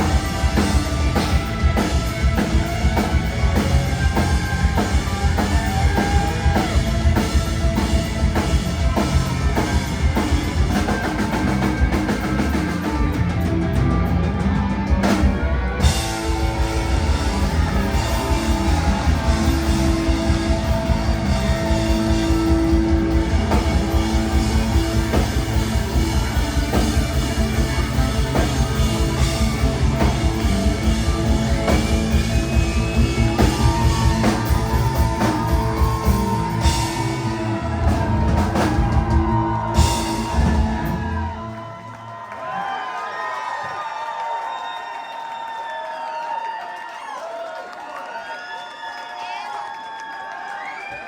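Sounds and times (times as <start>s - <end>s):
rock band playing live: 0.0s - 41.8s.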